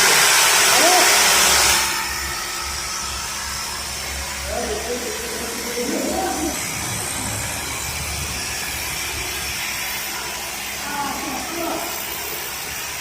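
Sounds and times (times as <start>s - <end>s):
loud hissing noise: 0.0s - 13.0s.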